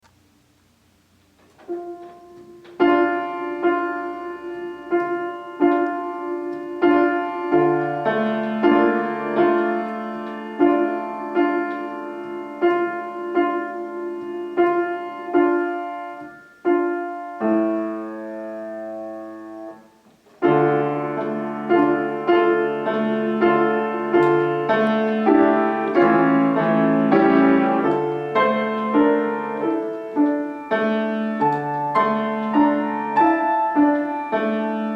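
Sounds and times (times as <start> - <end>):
solo piano playing: 1.0 - 34.9.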